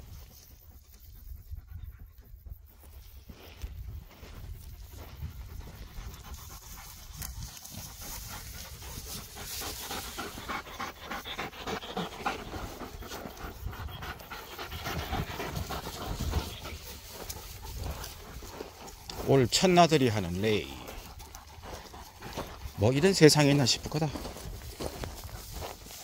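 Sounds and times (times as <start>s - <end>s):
dogs panting rapidly: 0.0s - 26.0s.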